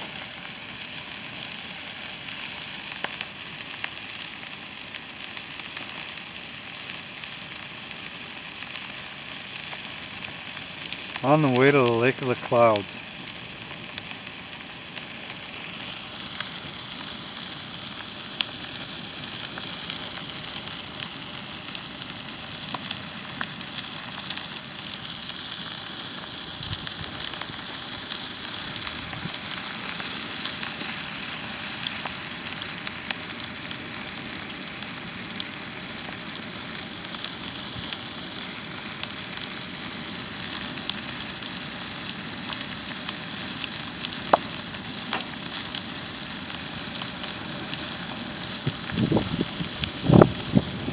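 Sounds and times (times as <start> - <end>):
fire crackling and hissing: 0.0 - 50.9
sharp pops of fire: 0.0 - 50.9.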